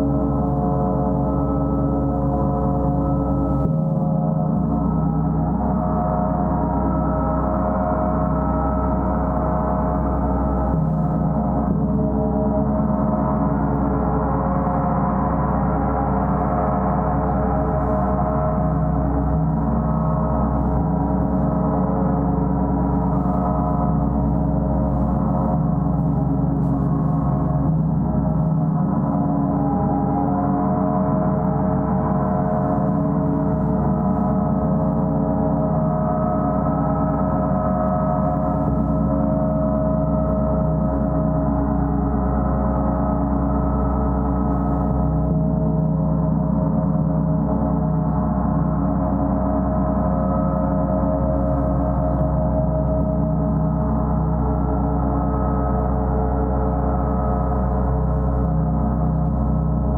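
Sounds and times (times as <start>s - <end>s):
gong wash: 0.0s - 59.9s.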